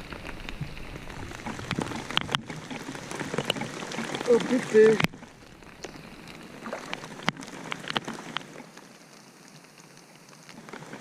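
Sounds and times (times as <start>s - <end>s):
wind and water hiss: 0.0s - 11.0s.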